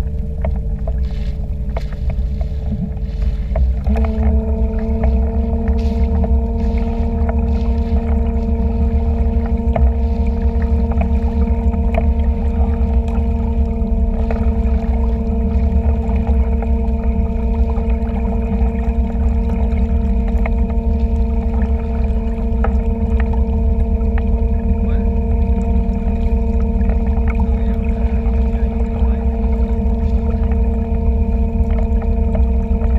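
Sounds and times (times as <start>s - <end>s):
boat motor humming: 0.0s - 32.9s.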